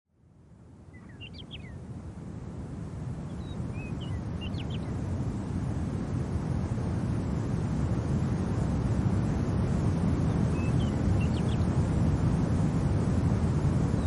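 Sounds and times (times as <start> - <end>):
low steady wind: 0.1 - 14.0.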